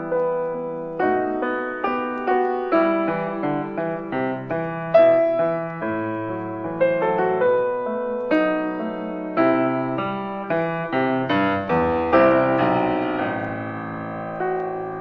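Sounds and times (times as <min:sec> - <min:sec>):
calm piano melody: 0:00.0 - 0:15.0.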